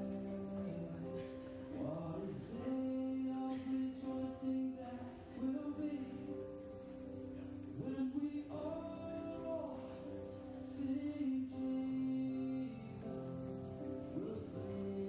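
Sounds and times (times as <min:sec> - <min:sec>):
person singing: 0:00.0 - 0:15.0
slow music with held notes: 0:00.0 - 0:15.0.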